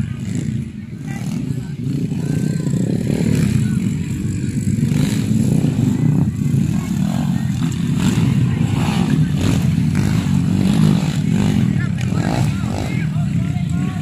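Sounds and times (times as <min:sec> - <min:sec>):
dirt bike engines running: 0:00.0 - 0:14.0.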